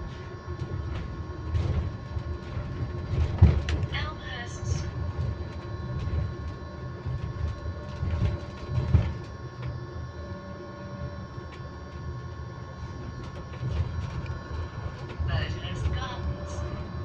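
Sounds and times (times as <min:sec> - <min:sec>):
electric bus motor whine: 0:00.0 - 0:17.0
road rumble: 0:00.0 - 0:17.0.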